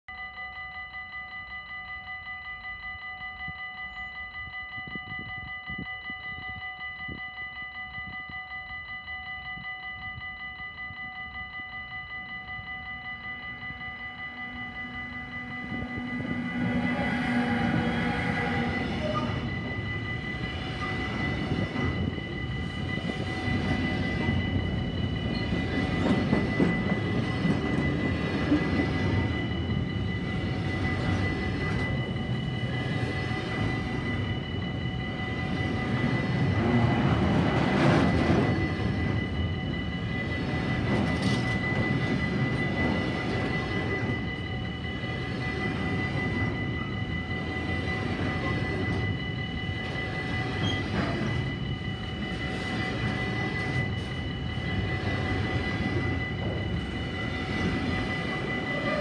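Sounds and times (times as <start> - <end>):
electric locomotive whine: 0.1 - 59.0
level crossing warning tones: 0.1 - 59.0
train wagons rumbling on rails: 3.4 - 59.0.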